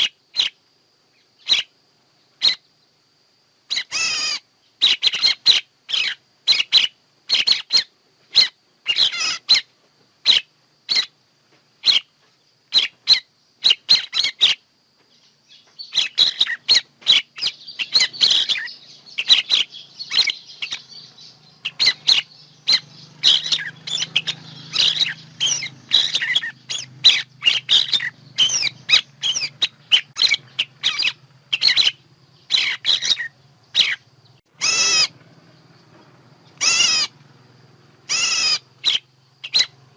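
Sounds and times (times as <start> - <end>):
faint low hum: 0.0 - 39.9
songbird chirps: 0.0 - 39.9.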